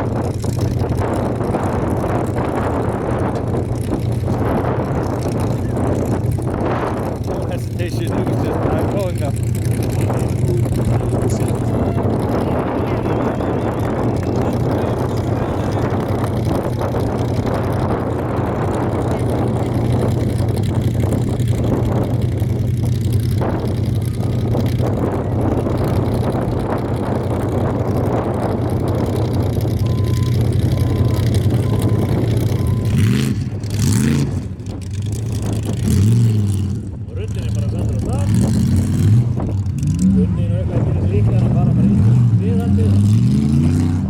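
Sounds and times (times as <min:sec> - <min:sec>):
race truck engine roaring: 0:00.0 - 0:44.0.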